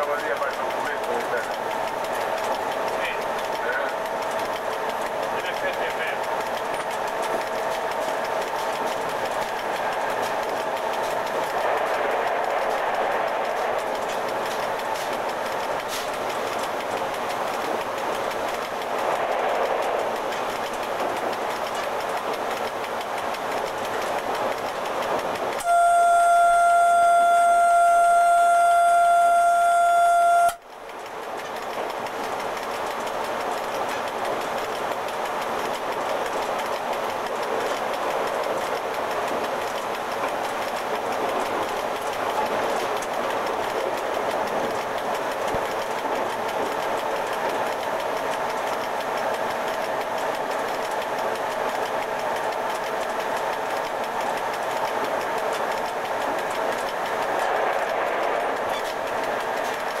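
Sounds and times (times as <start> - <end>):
train cab running noise: 0.0 - 60.0.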